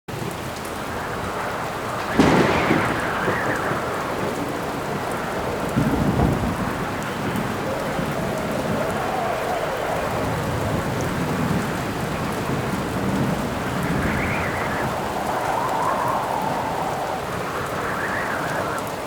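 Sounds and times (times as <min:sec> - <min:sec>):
steady rain: 0:00.1 - 0:19.0
thunder clap and rumble: 0:00.1 - 0:19.0
wind howling: 0:00.1 - 0:19.0.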